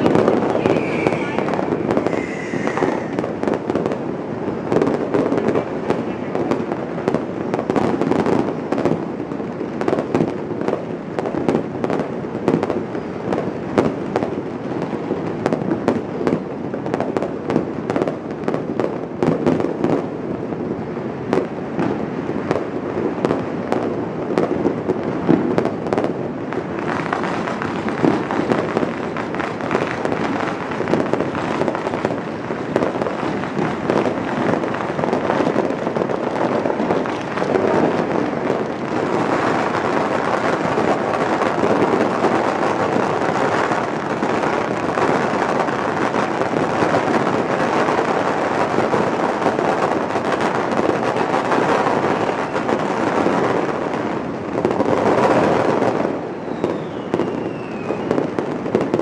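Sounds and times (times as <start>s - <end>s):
fireworks and firecrackers popping: 0.0s - 59.0s.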